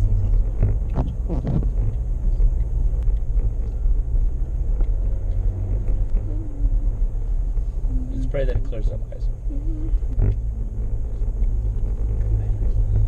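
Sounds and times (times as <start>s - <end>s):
car engine rumble from inside: 0.0s - 13.0s.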